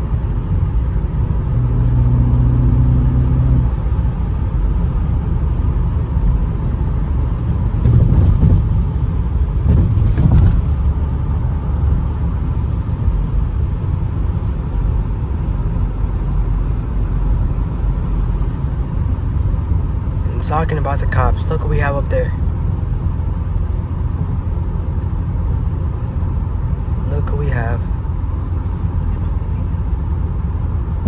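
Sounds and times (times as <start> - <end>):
car engine cruising: 0.0 - 31.0.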